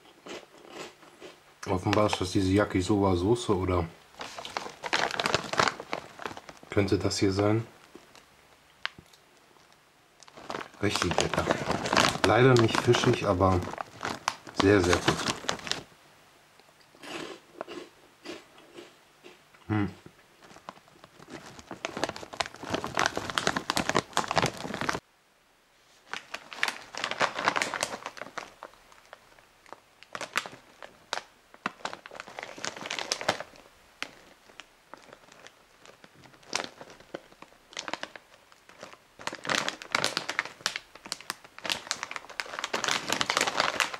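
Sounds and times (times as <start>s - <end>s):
foil snack bags crinkling: 1.6s - 9.2s, 10.2s - 15.9s, 20.4s - 25.0s, 26.0s - 43.9s.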